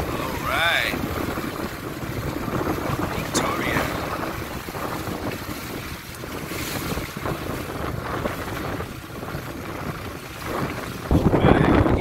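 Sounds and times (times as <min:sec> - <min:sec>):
water splashing against boat hull: 0:00.0 - 0:12.0
wind buffeting microphone: 0:00.0 - 0:12.0.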